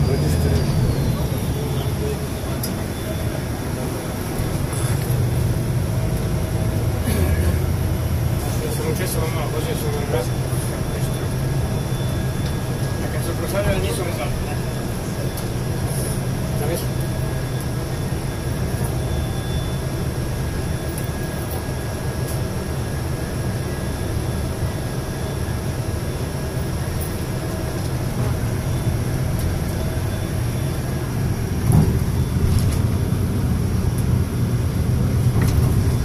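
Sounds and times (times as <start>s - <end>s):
coach engine hum: 0.0s - 36.0s
road noise: 0.0s - 36.0s.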